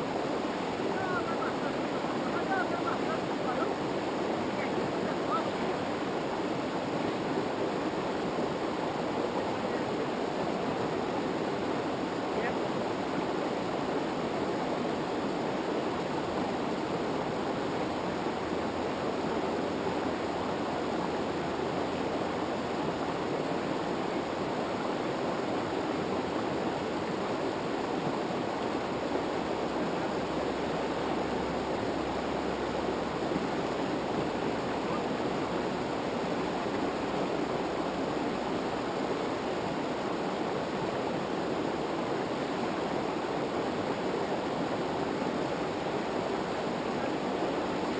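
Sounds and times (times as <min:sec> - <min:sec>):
river water rushing over rapids: 0:00.0 - 0:47.9.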